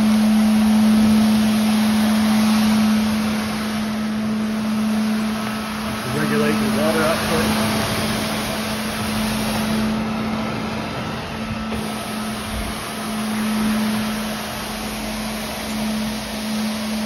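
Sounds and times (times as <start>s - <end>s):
even rushing noise: 0.0s - 15.6s
floor scrubber hum: 0.0s - 17.0s.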